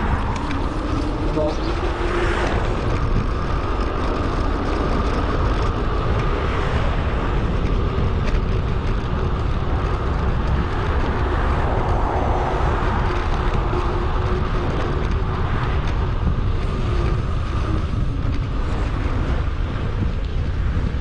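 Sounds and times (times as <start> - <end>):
bicycle rolling noise: 0.0 - 21.0
wind on microphone: 0.0 - 21.0.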